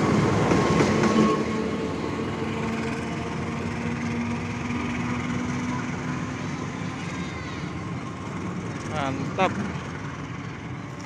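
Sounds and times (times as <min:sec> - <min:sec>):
diesel engine drone: 0:00.0 - 0:11.0.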